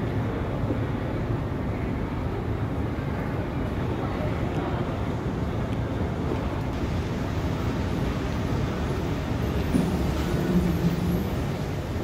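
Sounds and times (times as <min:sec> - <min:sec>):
indoor concourse rumble: 0:00.0 - 0:12.0.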